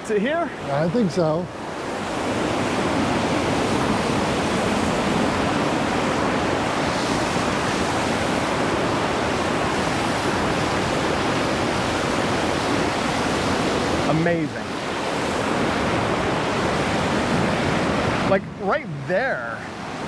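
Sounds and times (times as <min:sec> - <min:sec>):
rushing creek water roaring: 0:00.0 - 0:20.0.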